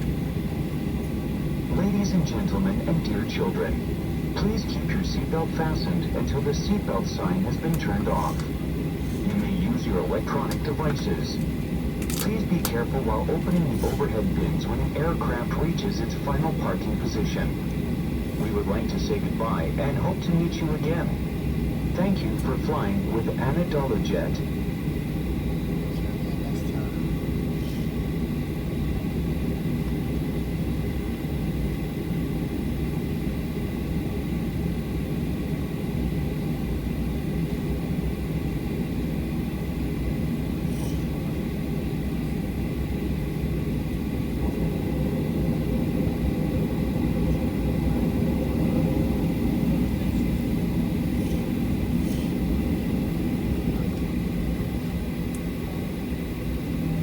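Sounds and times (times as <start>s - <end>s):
jet engines at low power: 0.0s - 57.0s.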